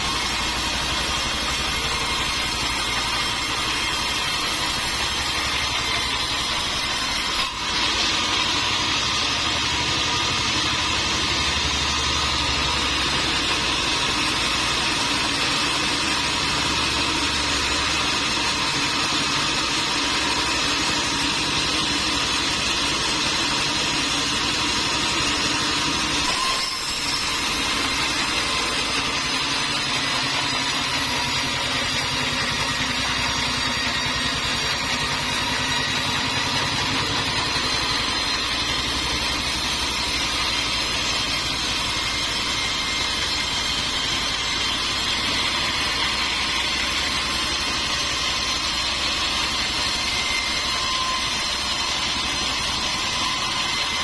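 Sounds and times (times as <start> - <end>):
sawmill machinery high whine: 0.0 - 54.0.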